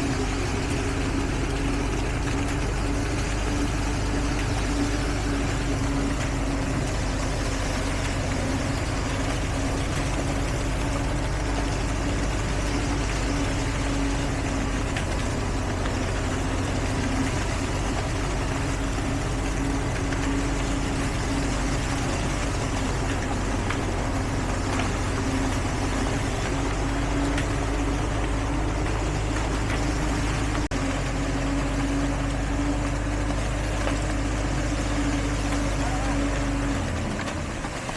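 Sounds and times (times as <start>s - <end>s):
heavy vehicle engine running: 0.0s - 37.9s.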